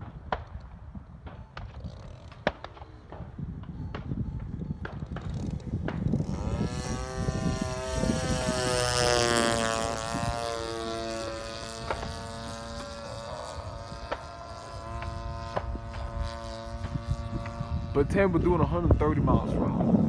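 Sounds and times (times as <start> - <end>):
model airplane engine and propeller: 0.0 - 20.0.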